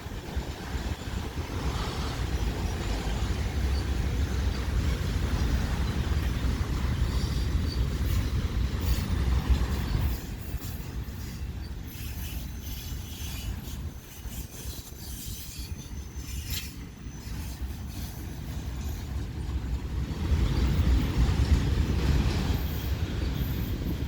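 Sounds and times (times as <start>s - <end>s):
freight train rumbling: 0.0s - 24.0s
train wheel squeals: 0.0s - 24.0s.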